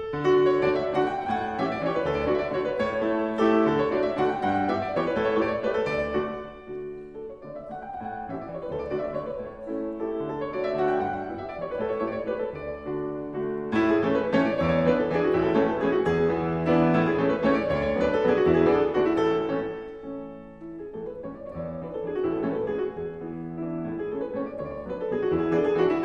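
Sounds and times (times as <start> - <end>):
gentle classical piano piece: 0.0 - 26.0.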